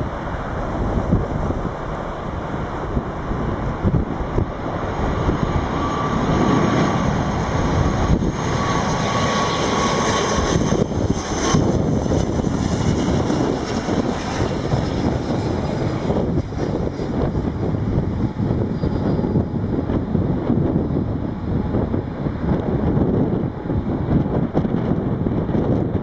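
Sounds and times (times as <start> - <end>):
airliner engines rumbling: 0.0 - 26.0
high engine whine: 0.0 - 26.0
wind buffeting microphone: 0.0 - 26.0.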